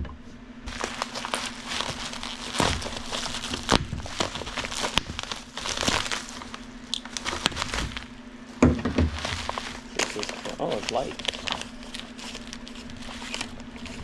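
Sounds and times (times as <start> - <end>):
packaging crinkling and rustling: 0.7 - 14.0.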